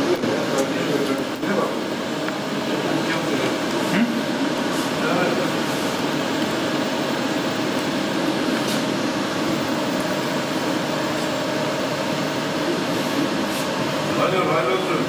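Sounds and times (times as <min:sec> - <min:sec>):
printer carriage whirring: 0:00.0 - 0:15.0.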